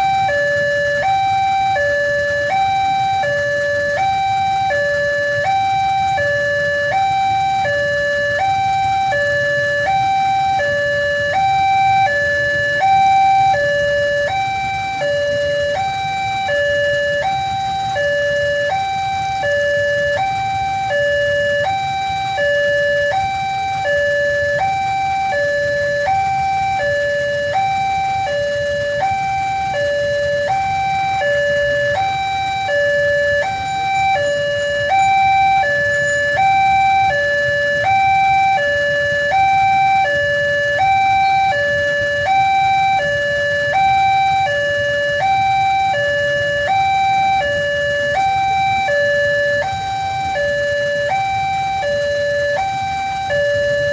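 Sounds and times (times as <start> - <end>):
level crossing two-tone alarm: 0.0 - 53.9
low steady rumble: 0.0 - 53.9.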